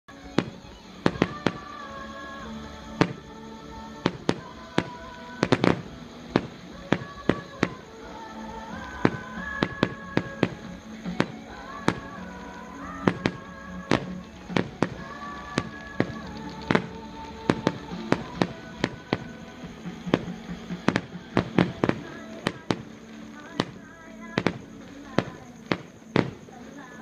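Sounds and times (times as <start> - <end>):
background music: 0.0 - 27.0
fireworks bangs and pops: 0.1 - 2.0, 2.8 - 27.0.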